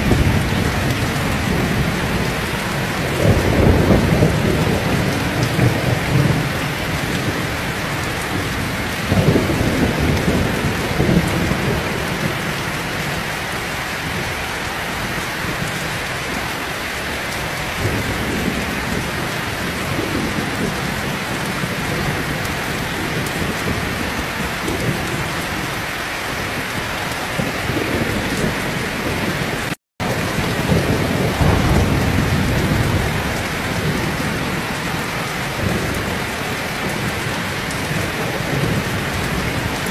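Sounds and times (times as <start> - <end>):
low rolling thunder: 0.0 - 14.4, 15.0 - 39.9
heavy rain falling: 0.0 - 39.9.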